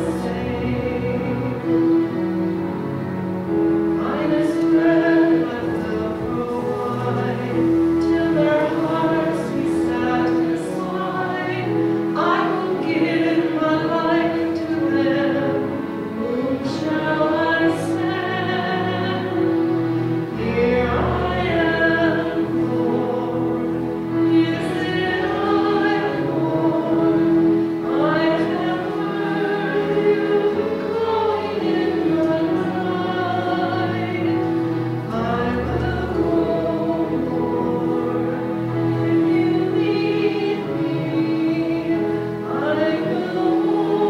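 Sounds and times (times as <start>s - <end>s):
long held accompaniment notes: 0.0s - 44.0s
voices singing a hymn: 0.0s - 44.0s.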